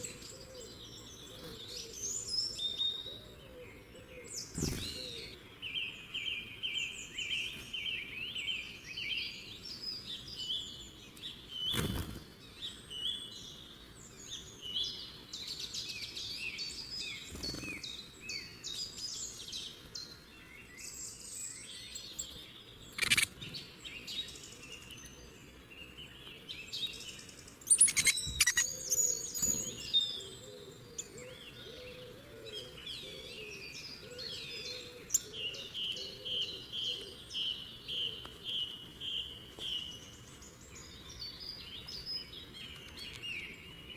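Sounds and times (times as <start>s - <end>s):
birds chirping and singing: 0.0s - 43.9s.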